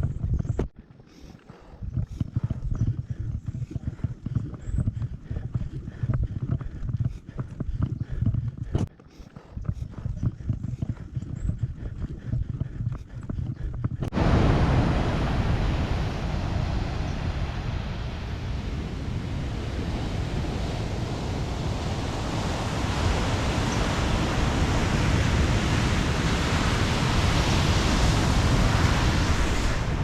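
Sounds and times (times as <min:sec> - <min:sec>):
wind buffeting microphone: 0:00.0 - 0:00.7, 0:01.8 - 0:30.0.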